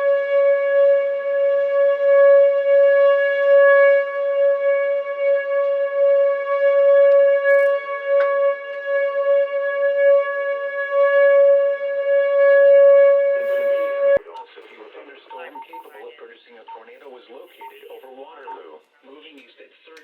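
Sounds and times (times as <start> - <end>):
tornado warning siren steady tone: 0.0 - 14.6, 15.2 - 18.7.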